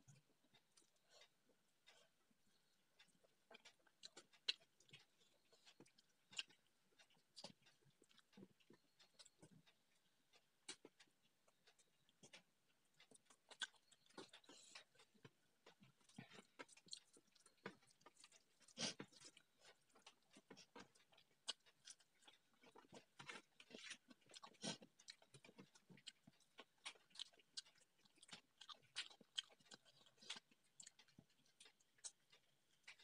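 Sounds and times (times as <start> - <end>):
chewing and lip smacks: 0.5 - 33.0.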